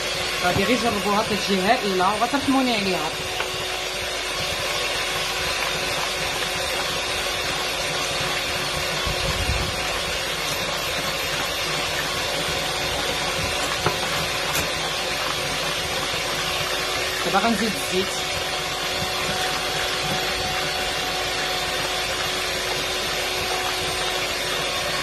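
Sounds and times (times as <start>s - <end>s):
electric hand mixer whirring: 0.0s - 25.0s.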